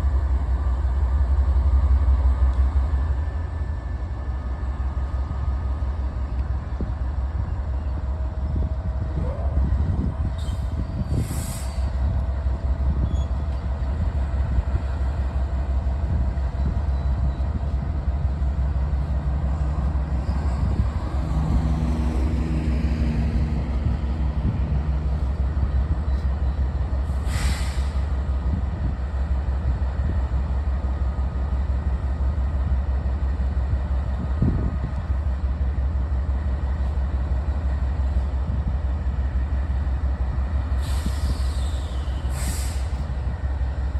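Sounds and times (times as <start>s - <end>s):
freight train rumbling: 0.0s - 43.9s.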